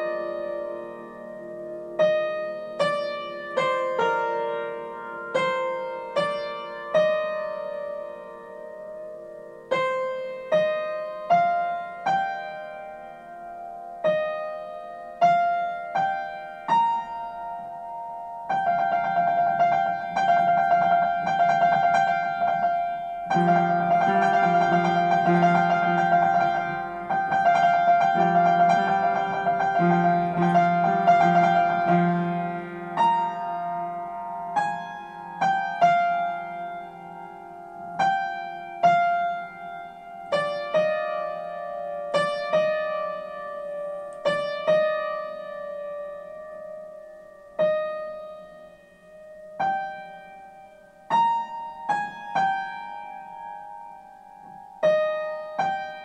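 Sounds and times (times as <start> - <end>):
upright piano solo: 0.0 - 56.0.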